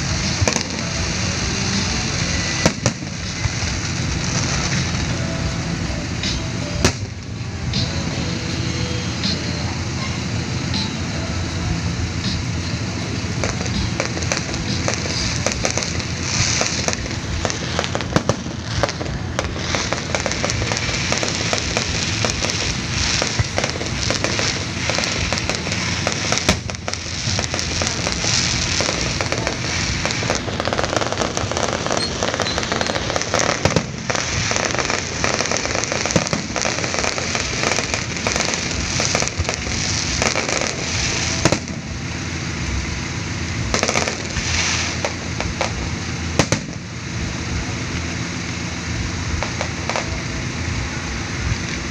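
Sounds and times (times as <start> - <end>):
fireworks pops and bangs: 0.0 - 8.5, 12.1 - 51.9
fireworks crackling: 0.0 - 51.9.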